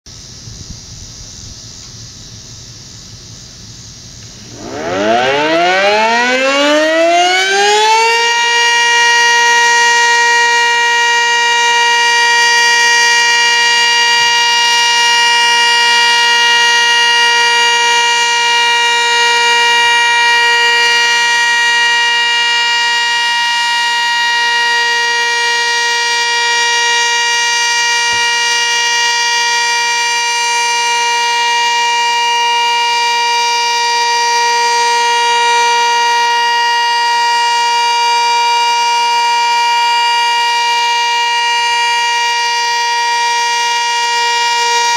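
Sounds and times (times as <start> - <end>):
two-tone warning siren: 4.2 - 44.9.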